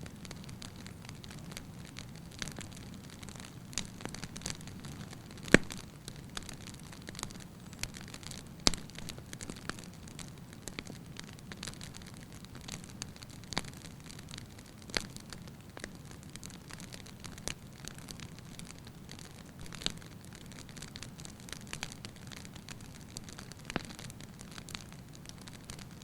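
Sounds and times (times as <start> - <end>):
burning logs popping: 0.0 - 26.0
wood fire crackling: 0.0 - 26.0.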